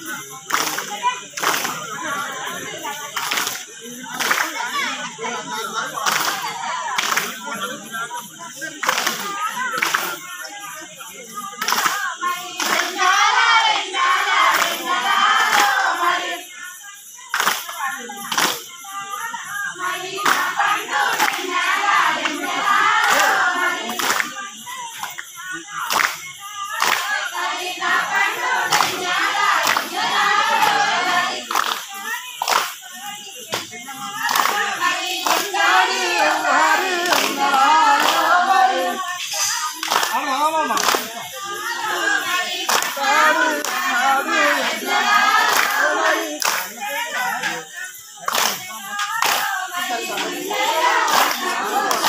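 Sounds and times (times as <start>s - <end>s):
group of voices singing: 0.0s - 52.0s
rhythmic hand claps: 0.0s - 52.0s.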